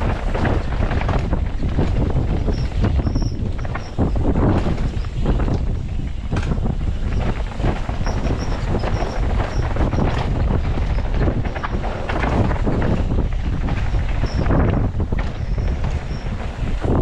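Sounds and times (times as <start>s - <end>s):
bike tyres clattering over stones: 0.0s - 17.0s
wind buffeting microphone: 0.0s - 17.0s.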